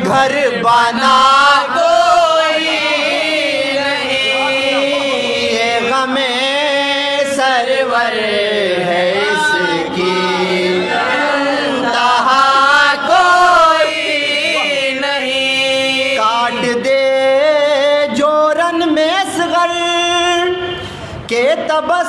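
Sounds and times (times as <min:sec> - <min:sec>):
men chanting unaccompanied lament: 0:00.0 - 0:20.5.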